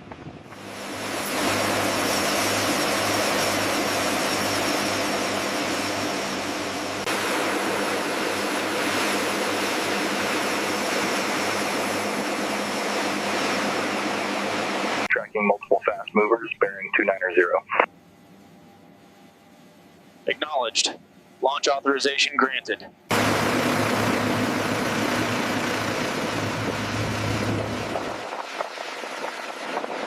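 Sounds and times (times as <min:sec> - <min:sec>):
aircraft turbine engine roaring: 0:00.0 - 0:30.0.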